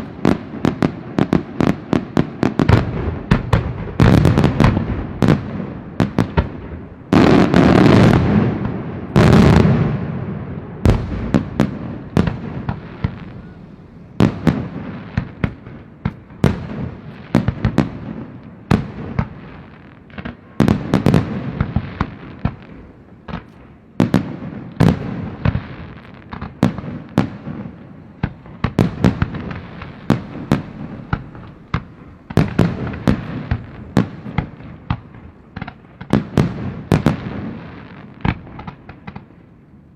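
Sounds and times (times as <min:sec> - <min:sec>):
fireworks bangs and crackles: 0:00.0 - 0:39.9
heavy fireworks booms: 0:00.0 - 0:39.9.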